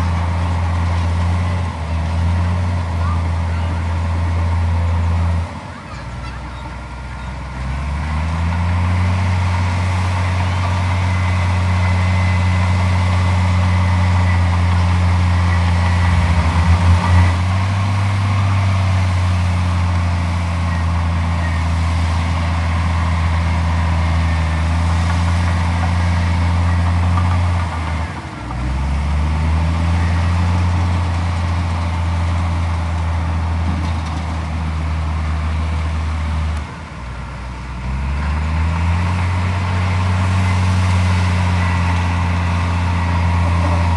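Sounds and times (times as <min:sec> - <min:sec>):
diesel engine at high revs: 0:00.0 - 0:43.9.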